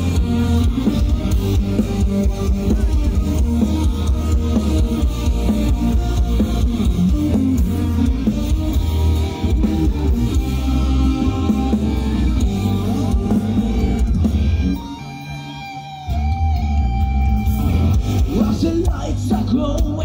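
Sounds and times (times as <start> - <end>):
metal band playing live: 0.0 - 20.0.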